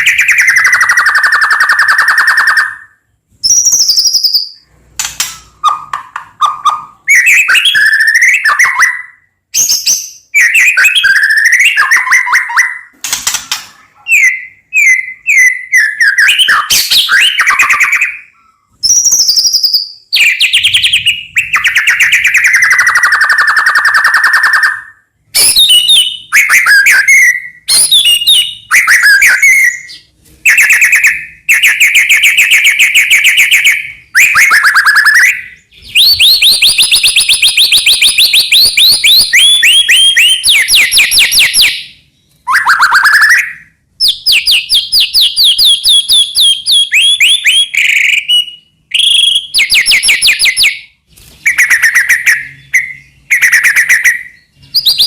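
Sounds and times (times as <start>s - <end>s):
songbird singing in varied phrases: 0.0s - 50.9s.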